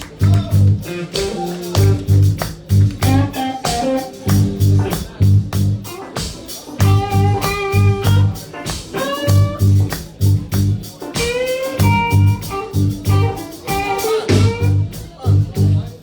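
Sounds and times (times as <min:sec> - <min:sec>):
band playing blues-rock: 0:00.0 - 0:16.0.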